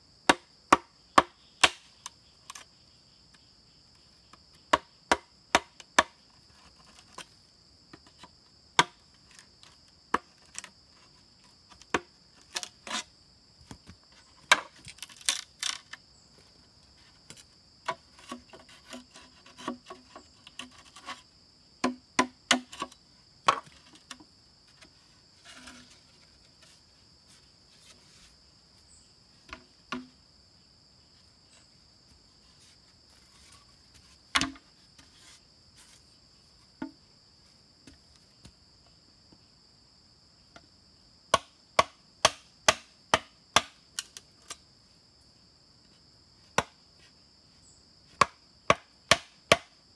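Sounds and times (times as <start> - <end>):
high insect drone: 0.0 - 49.9.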